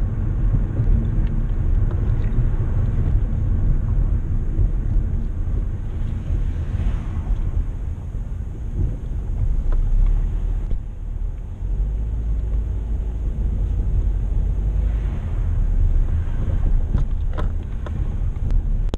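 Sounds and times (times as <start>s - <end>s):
car engine and tyres rumbling: 0.0s - 18.9s.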